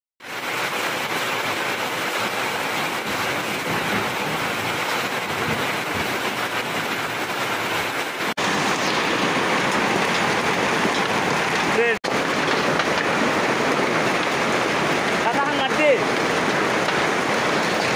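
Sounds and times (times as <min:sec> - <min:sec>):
hail and rain on metal roofs: 0:00.2 - 0:17.9.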